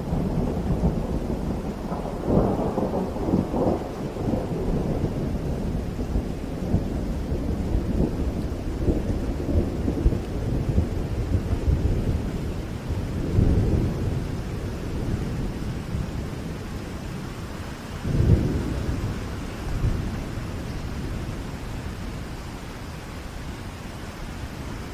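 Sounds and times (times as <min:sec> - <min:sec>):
thunder rumbling: 0:00.0 - 0:22.4
rain falling: 0:00.0 - 0:24.9.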